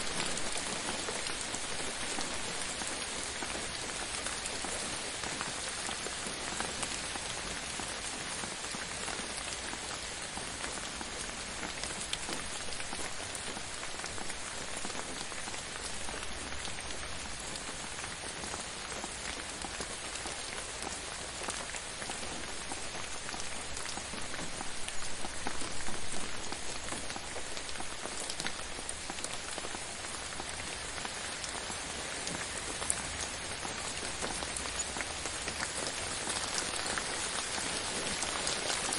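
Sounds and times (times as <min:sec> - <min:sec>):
gentle rain falling: 0:00.0 - 0:38.9.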